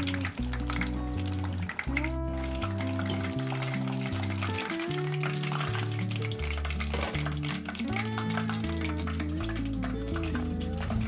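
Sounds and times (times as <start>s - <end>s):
background music with held notes: 0.0s - 11.0s
food deep-frying in oil: 0.0s - 11.0s.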